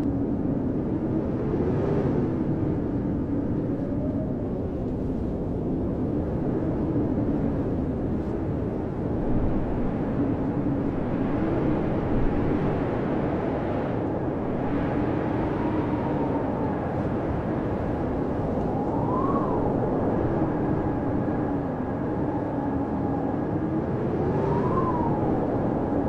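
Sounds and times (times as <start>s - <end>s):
blizzard wind roaring: 0.0s - 26.0s
faint howling wind whistles: 0.0s - 26.0s.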